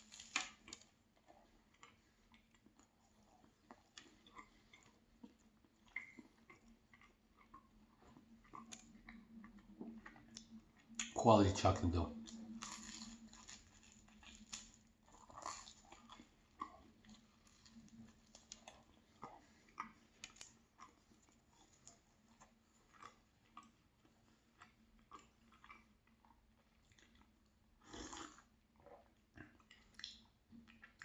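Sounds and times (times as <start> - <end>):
faint chewing of pastry: 0.0 - 31.0.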